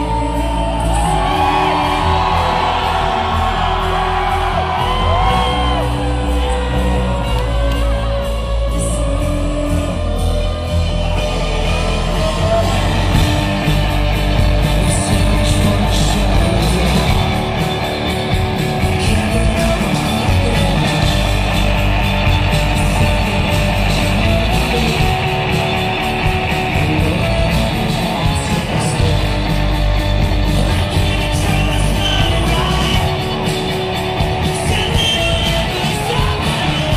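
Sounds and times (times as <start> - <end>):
bass guitar: 0.0 - 36.9
distorted electric guitars: 0.0 - 36.9
drums: 0.0 - 36.9
person singing: 0.0 - 36.9.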